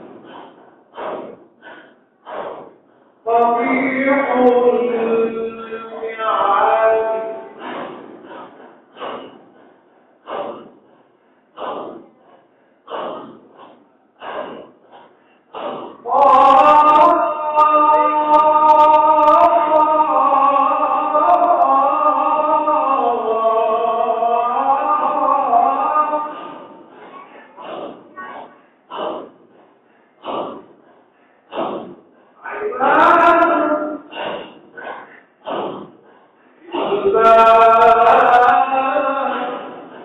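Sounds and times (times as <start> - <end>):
group singing: 0.0 - 9.6, 15.5 - 29.4, 30.2 - 30.7, 31.5 - 40.0
chanted breaths: 0.0 - 17.3, 17.9 - 40.0.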